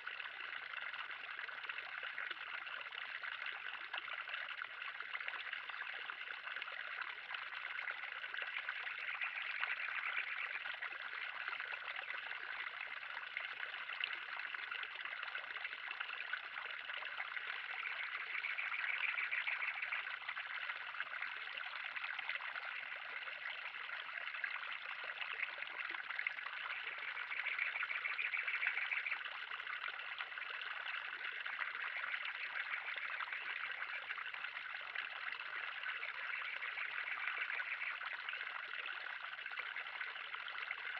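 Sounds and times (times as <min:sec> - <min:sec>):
water trickling in a pond: 0:00.0 - 0:40.9.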